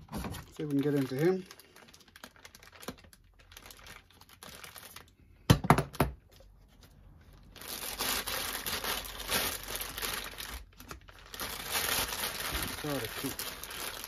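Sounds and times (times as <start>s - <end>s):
plastic bag rustling: 0.0s - 5.2s, 6.3s - 14.0s
plastic crinkling: 0.0s - 5.2s, 6.2s - 14.0s.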